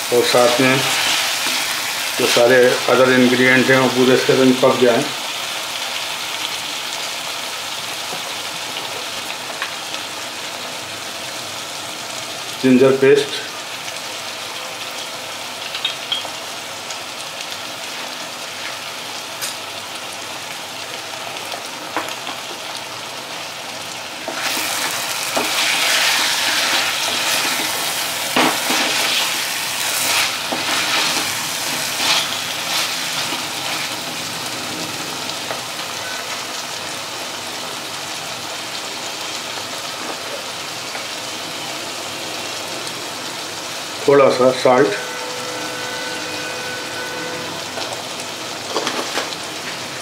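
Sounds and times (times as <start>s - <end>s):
chicken sizzling in a pot: 0.0s - 50.0s.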